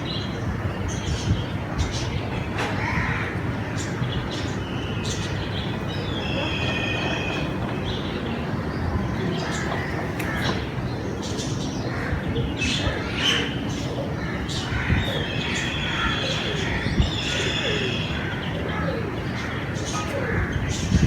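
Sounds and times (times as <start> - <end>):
birds chirping: 0.0 - 21.0
steady rumbling background noise: 0.0 - 21.0.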